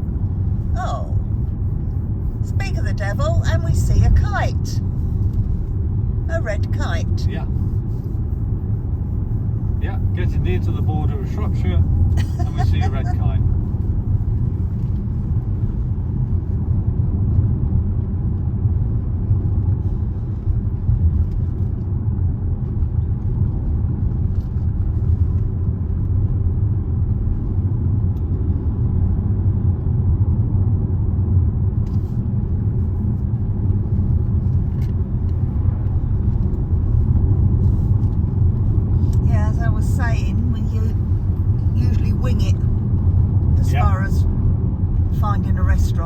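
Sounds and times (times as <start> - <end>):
car cabin road and engine rumble: 0.0 - 46.0.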